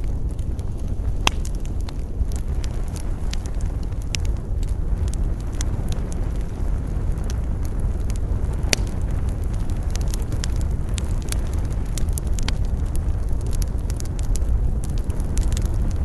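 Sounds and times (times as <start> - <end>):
campfire crackling: 0.0 - 16.0
low wind rumble: 0.0 - 16.0.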